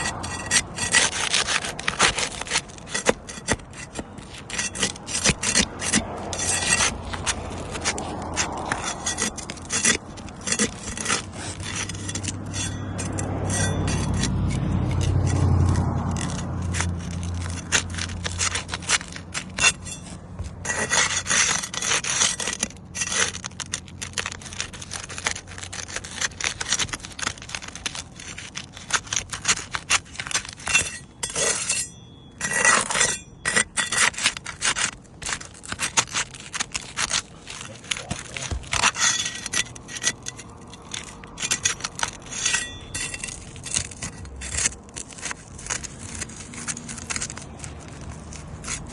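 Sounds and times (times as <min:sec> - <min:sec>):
scraping and rubbing with clicks: 0:00.0 - 0:48.9.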